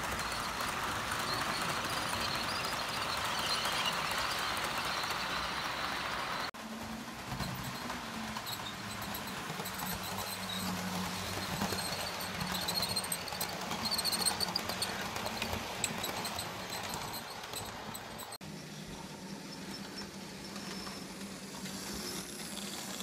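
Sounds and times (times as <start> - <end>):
model train wheels clicking: 0.0 - 18.4, 19.6 - 23.0.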